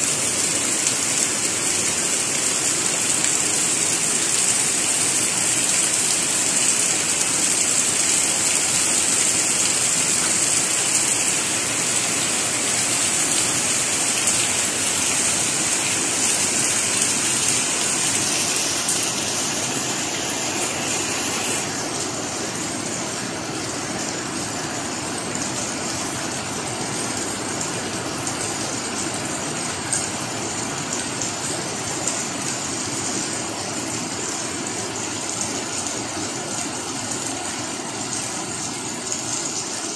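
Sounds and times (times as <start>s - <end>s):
steady rain pouring: 0.0s - 39.9s.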